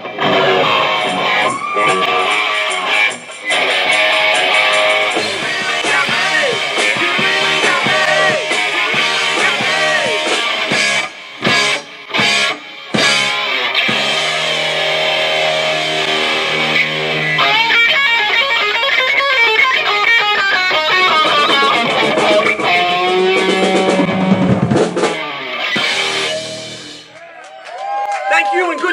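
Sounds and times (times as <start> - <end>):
electric guitar: 0.0 - 27.2
live rock band playing: 0.0 - 27.2
drums: 0.0 - 28.9.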